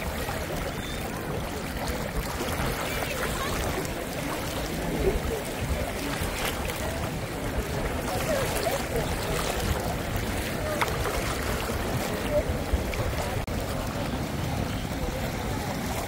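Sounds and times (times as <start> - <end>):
crowd chatter: 0.0 - 16.0
seawater sloshing around legs: 0.0 - 16.0.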